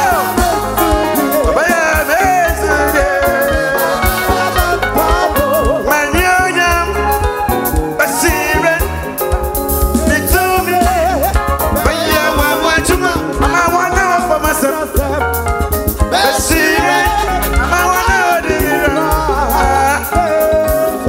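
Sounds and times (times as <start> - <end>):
people singing: 0.0 - 15.4, 16.0 - 21.0
live band playing gospel music: 0.0 - 21.0
trumpet and trombone: 0.0 - 21.0.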